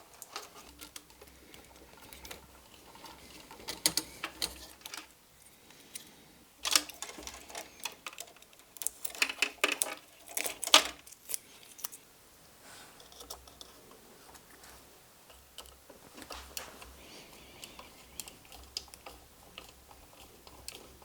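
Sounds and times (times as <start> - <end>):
small plastic parts clicking and rattling: 0.0 - 12.0, 13.0 - 14.0, 15.3 - 21.0.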